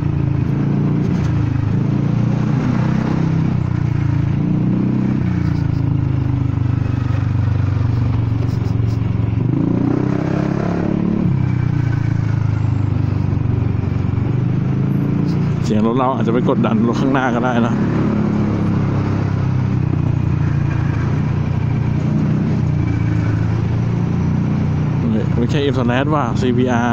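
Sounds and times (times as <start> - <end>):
scooter engine running: 0.0 - 26.1.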